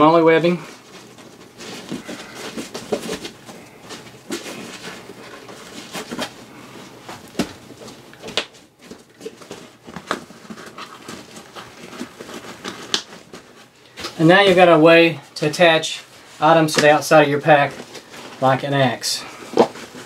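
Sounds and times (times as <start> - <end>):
fabric rustling: 0.0 - 20.0.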